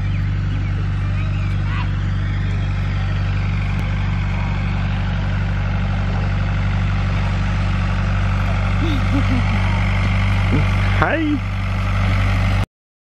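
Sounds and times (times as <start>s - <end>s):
engine idling: 0.0s - 12.7s.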